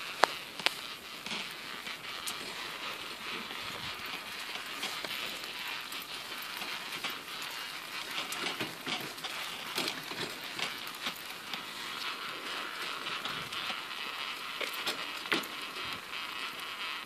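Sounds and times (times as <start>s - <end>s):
pram wheels rolling on rough path: 0.0s - 17.0s.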